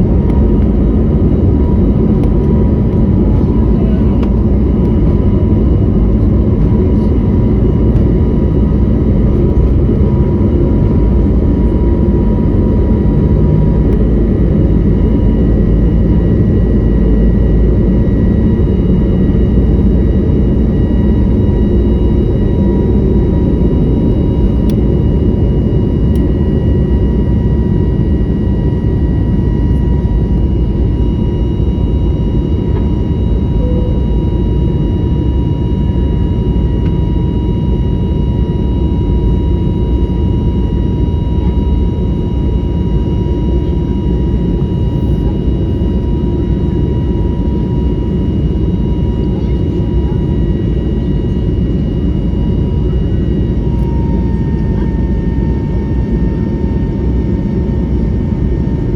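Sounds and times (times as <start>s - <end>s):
jet engine and airflow rumble: 0.0s - 58.9s
thin steady whine: 0.0s - 58.9s.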